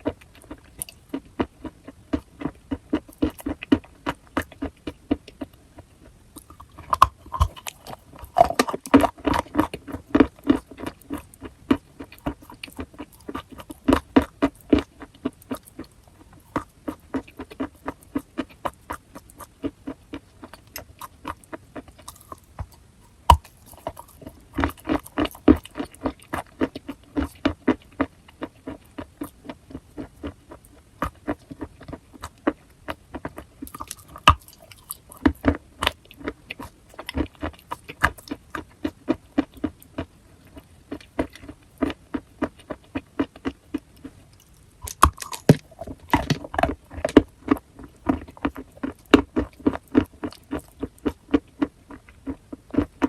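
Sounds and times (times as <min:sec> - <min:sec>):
chewing chalk crunches: 0:00.0 - 0:53.0.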